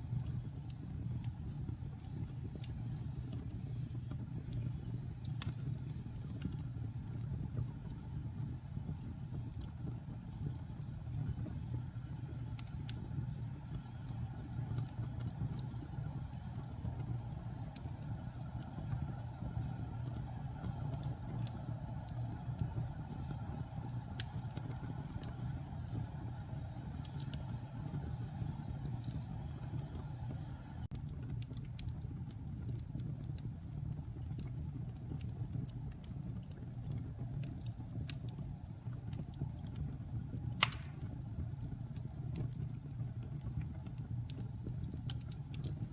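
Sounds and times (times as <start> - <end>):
low rumble of flames: 0.0 - 45.9
wood fire crackling: 0.0 - 45.9.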